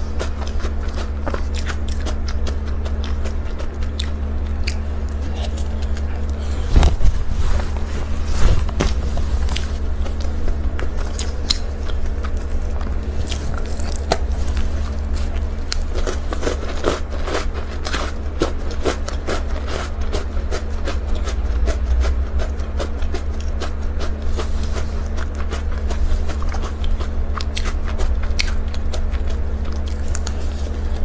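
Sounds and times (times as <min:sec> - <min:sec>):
bites and crunches: 0:00.0 - 0:31.0
steady low hum: 0:00.0 - 0:31.0
wet mouth sounds: 0:00.2 - 0:31.0.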